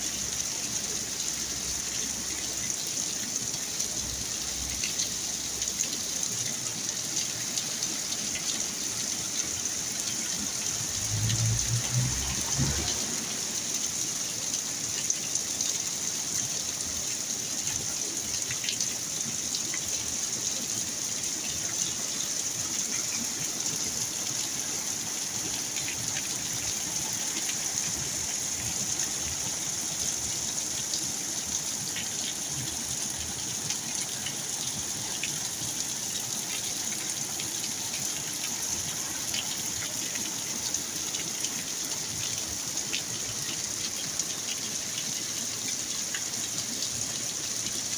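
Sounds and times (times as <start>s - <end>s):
rain pouring: 0.0s - 47.9s.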